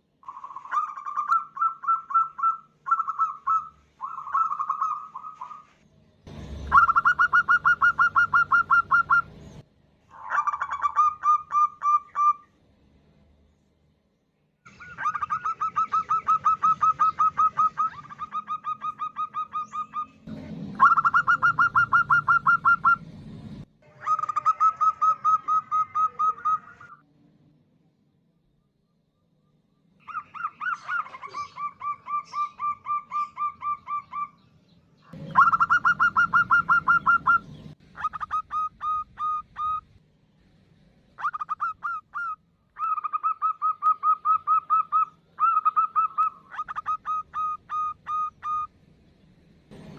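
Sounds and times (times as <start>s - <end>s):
dove calling: 0.2s - 12.5s, 14.7s - 23.2s, 23.8s - 27.0s, 30.0s - 40.0s, 41.2s - 48.7s.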